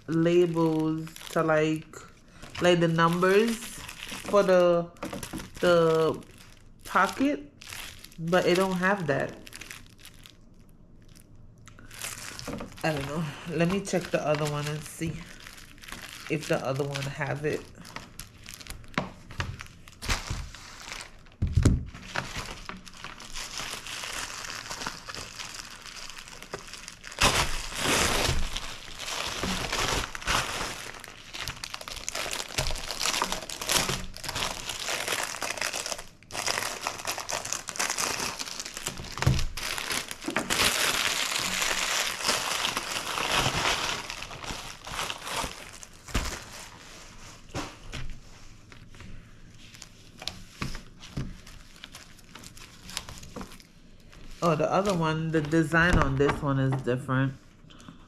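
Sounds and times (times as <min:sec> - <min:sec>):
plastic bag crinkling: 0:00.0 - 0:56.8.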